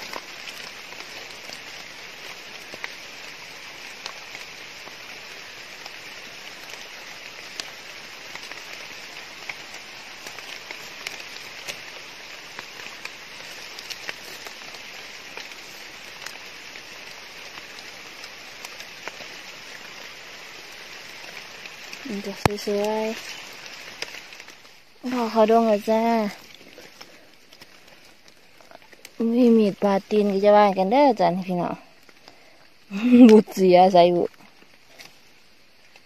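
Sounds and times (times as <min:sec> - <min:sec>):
rain hissing on leaves: 0:00.0 - 0:36.0
water drips ticking: 0:00.0 - 0:36.0.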